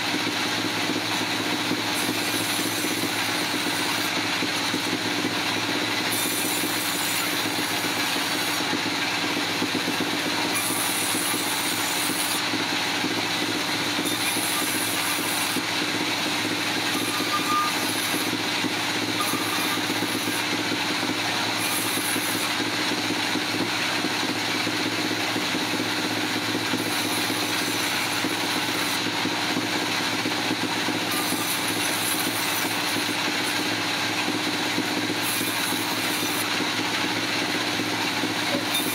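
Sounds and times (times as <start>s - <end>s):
heavy machinery running: 0.0s - 38.9s.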